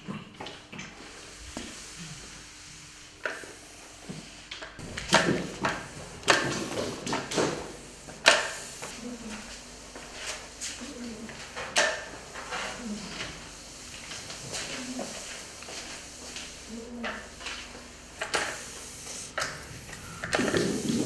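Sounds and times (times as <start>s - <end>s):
sponge mop scraping tiled floor: 4.1s - 21.0s.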